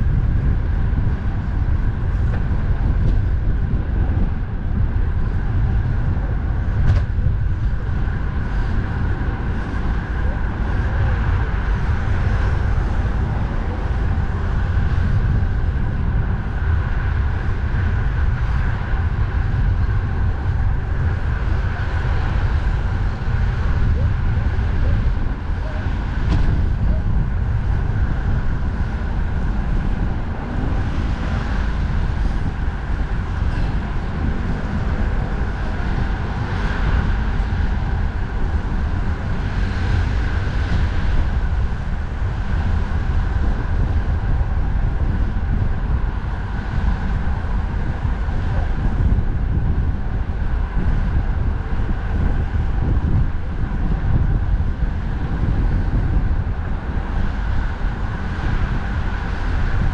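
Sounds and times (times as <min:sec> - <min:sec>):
road traffic noise: 0:00.0 - 0:59.9
wind buffeting microphone: 0:00.0 - 0:59.9.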